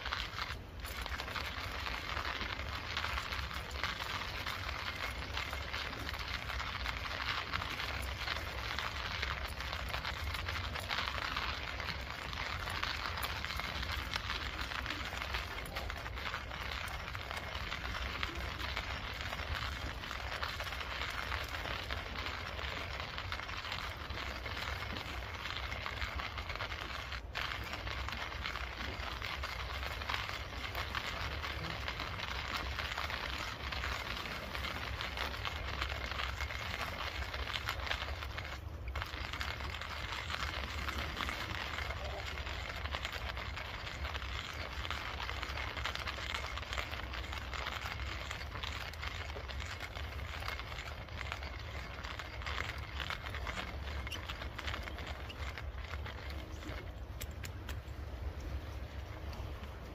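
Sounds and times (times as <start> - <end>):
coffee grinder crushing beans: 0.0 - 57.8.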